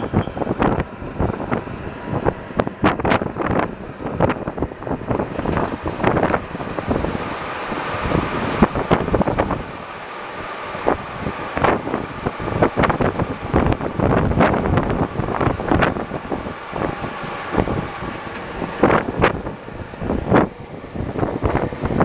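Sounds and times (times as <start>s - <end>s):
metro train rumble: 0.0s - 22.0s.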